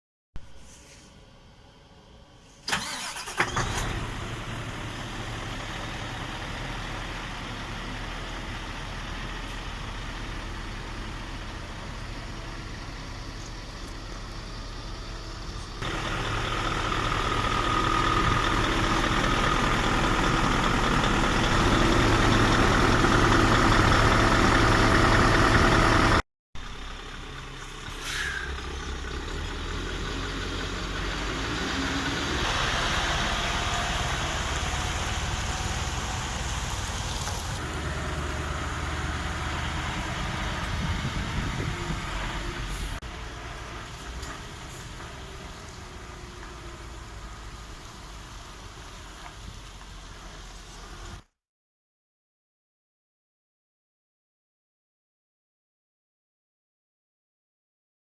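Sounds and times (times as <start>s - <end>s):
truck diesel engine running: 1.6s - 51.2s.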